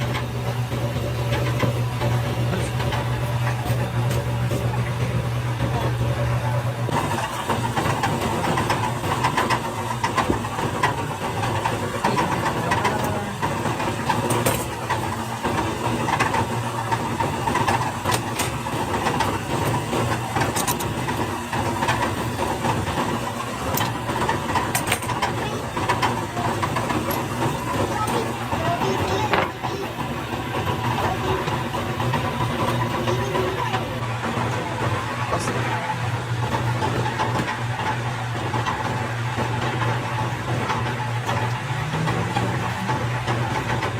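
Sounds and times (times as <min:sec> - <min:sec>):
workshop machinery humming: 0:00.0 - 0:43.9.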